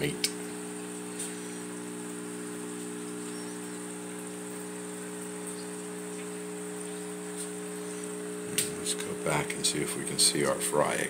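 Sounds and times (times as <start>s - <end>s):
aquarium pump humming: 0.0s - 11.0s
constant high hiss: 0.0s - 11.0s.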